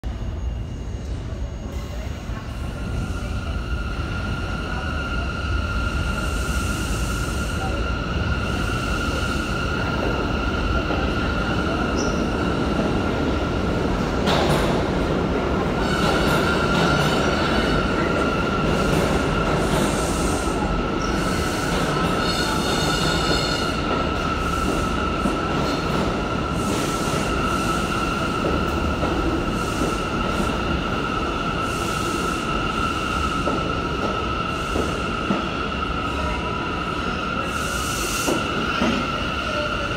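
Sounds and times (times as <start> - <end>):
subway train wheels rumbling: 0.0 - 39.9.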